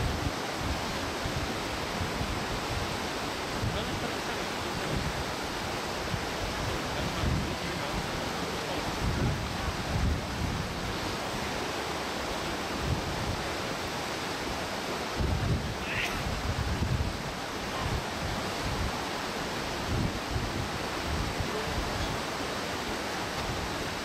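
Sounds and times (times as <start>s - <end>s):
wind buffeting microphone: 0.0s - 11.7s, 12.3s - 22.4s
stream flowing over stones: 0.0s - 24.0s.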